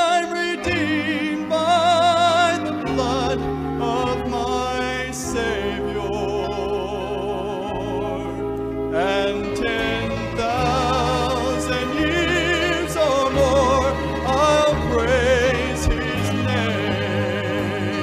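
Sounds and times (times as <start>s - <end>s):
gospel singing with vibrato: 0.0s - 18.0s
instrumental accompaniment: 0.0s - 18.0s.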